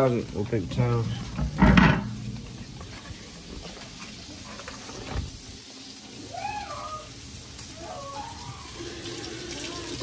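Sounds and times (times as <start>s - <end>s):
sausages sizzling in a pan: 0.0s - 10.0s.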